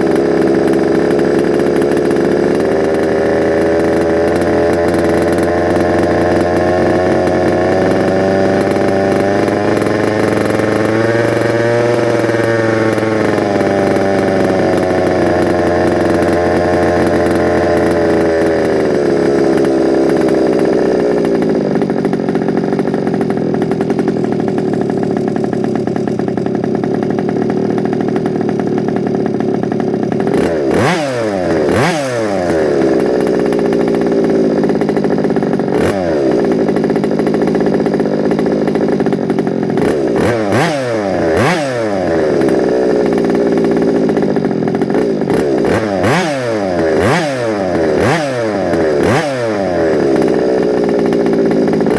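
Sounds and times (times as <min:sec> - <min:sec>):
small two-stroke engine running: 0:00.0 - 0:51.9.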